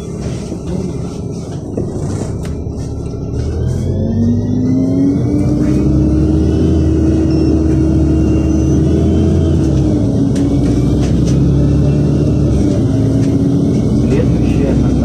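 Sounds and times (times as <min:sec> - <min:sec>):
bus engine accelerating: 0:00.0 - 0:15.0.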